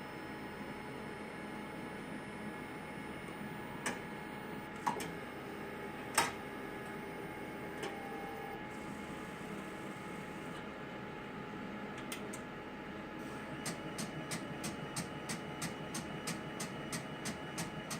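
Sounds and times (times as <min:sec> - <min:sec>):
steady background hum: 0:00.0 - 0:17.9.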